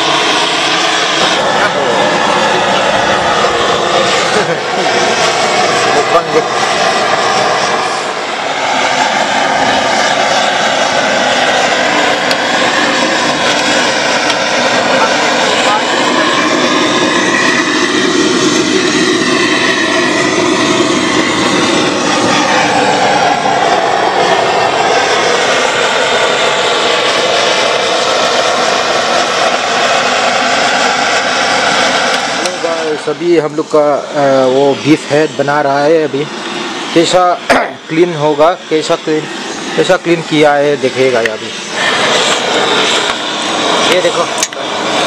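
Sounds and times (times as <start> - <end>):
roaring flame: 0.0 - 45.0.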